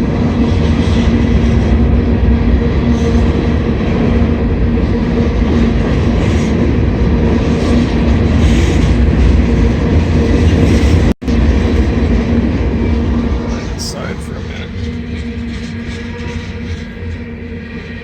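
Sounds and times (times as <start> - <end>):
low hum: 0.0 - 18.0
train wheels rumbling on rails: 0.0 - 18.0.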